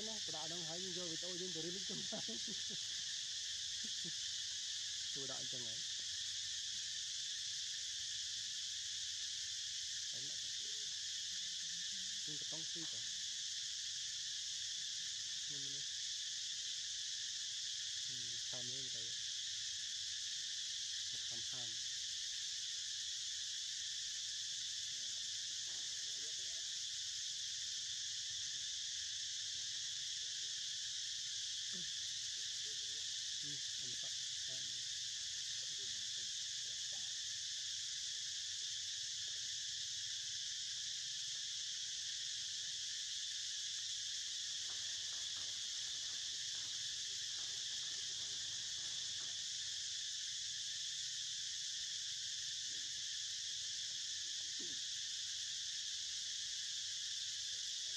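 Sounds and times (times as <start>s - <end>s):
shrill insect chorus: 0.0s - 57.9s.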